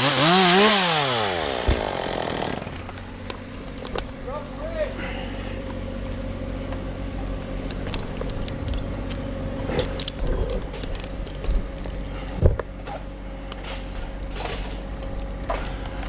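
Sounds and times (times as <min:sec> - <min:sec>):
engine idling: 0:00.6 - 0:16.0.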